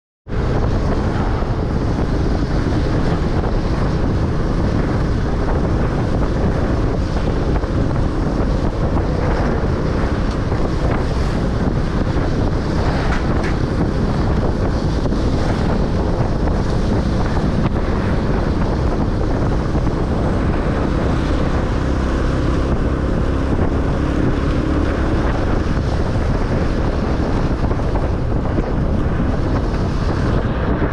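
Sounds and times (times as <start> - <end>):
motorcycle engine hum: 0.3 - 30.9
wind buffeting microphone: 0.3 - 30.9.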